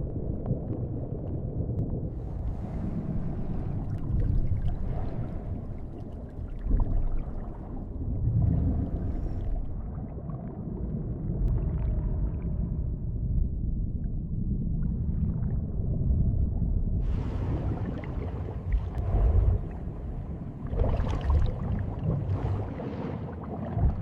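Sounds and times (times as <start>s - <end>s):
low underwater rumble: 0.0s - 24.0s.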